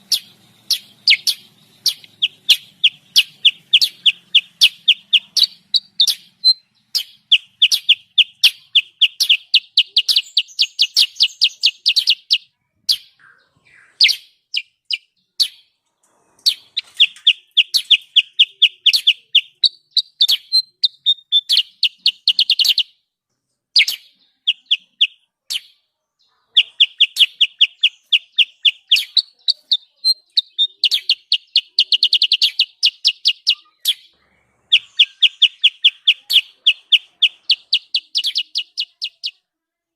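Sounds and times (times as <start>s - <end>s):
sharp high bird chirps: 0.0s - 23.1s, 23.7s - 39.6s.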